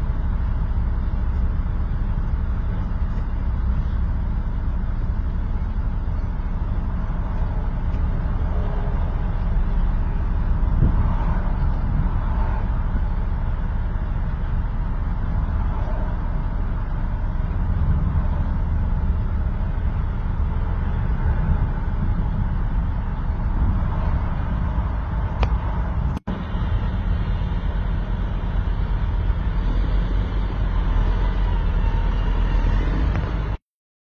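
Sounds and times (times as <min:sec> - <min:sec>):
excavator diesel engine rumbling: 0:00.0 - 0:33.6.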